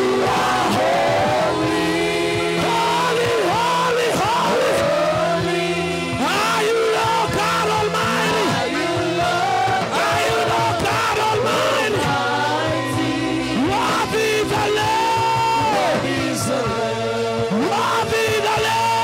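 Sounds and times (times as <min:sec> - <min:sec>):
band accompaniment: 0:00.0 - 0:19.0
worship singers singing: 0:00.0 - 0:19.0.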